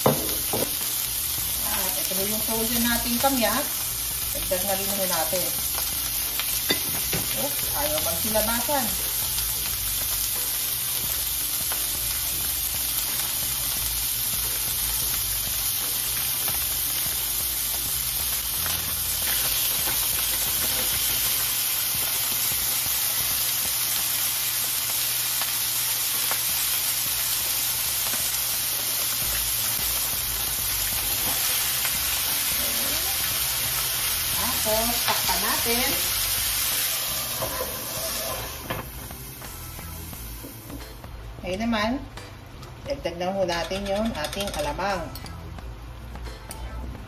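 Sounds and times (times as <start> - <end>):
meat sizzling in oil: 0.0 - 40.8.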